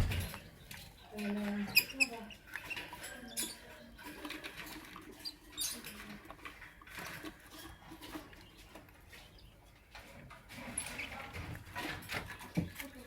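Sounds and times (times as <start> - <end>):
birds chirping: 0.0 - 11.5.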